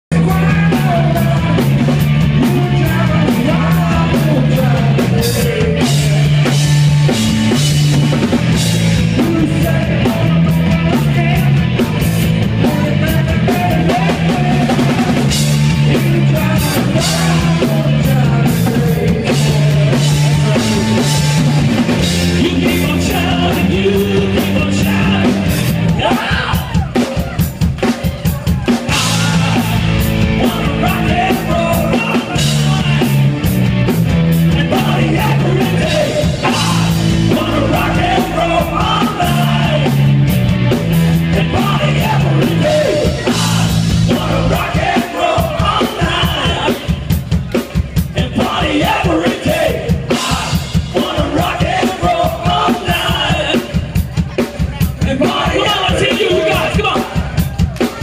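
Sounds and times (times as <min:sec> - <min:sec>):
bass guitar: 0:00.0 - 0:58.0
person singing: 0:00.1 - 0:07.2, 0:09.0 - 0:33.3, 0:34.5 - 0:40.1, 0:41.3 - 0:47.2, 0:48.0 - 0:58.0
electric guitar: 0:00.1 - 0:48.6
drum kit: 0:00.1 - 0:58.0.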